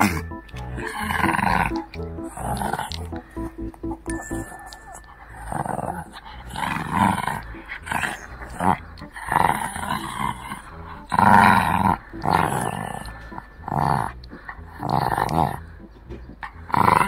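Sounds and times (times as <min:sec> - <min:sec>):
puppy growling: 0:00.0 - 0:03.5, 0:05.1 - 0:17.0.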